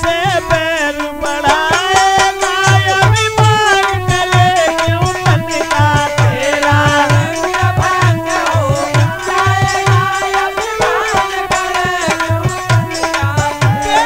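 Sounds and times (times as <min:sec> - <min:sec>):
hand drums beating: 0:00.0 - 0:14.0.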